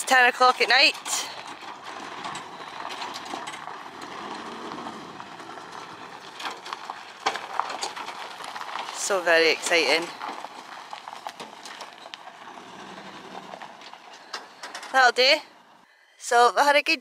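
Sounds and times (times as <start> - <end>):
diesel engine running: 0.0 - 15.9
tyres crunching on gravel: 0.0 - 15.9.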